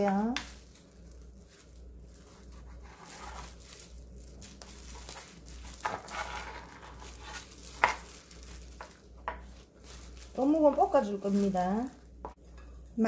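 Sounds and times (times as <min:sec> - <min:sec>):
handling rustle: 0:00.1 - 0:12.8.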